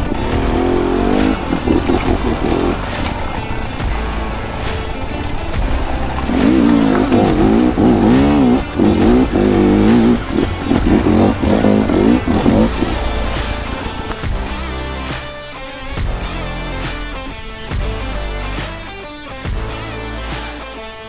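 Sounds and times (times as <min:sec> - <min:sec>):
dirt bike engine revving: 0:00.0 - 0:20.6.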